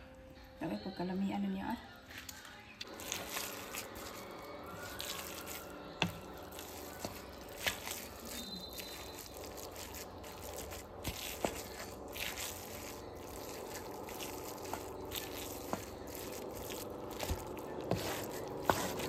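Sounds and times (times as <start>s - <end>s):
spatula squishing sticky rice: 2.8s - 19.0s.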